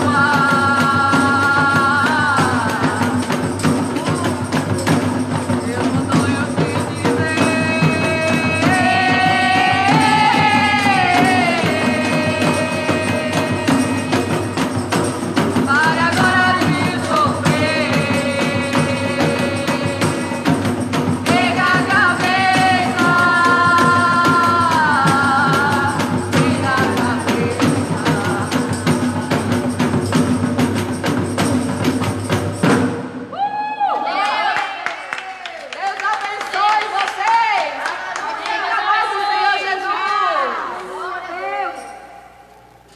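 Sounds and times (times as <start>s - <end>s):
gospel band playing: 0.0s - 35.5s
steady percussion: 0.0s - 42.9s.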